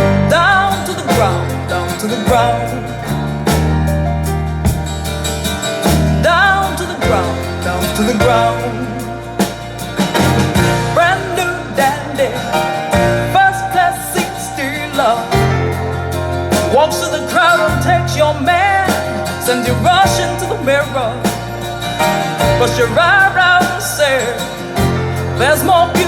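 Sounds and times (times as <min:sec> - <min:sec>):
recorded song with guitar and bass: 0:00.0 - 0:26.0.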